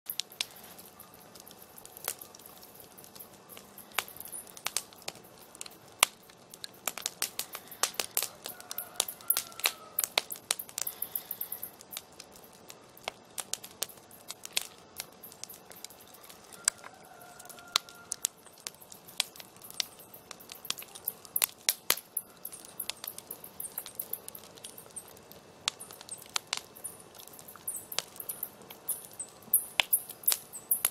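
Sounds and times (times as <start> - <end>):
campfire crackling and popping: 0.1 - 30.9
soft hiss of flames: 0.1 - 30.9.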